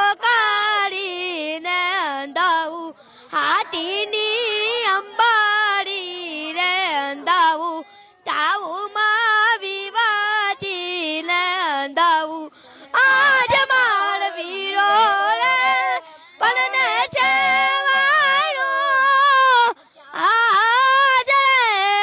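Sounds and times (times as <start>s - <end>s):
high voice singing solo: 3.4s - 22.0s.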